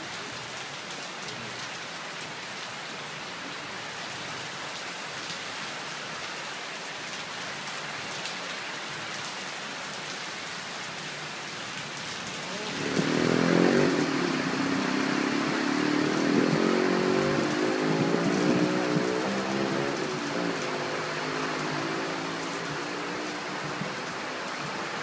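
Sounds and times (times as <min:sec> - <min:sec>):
rain falling on trees: 0:00.0 - 0:25.0.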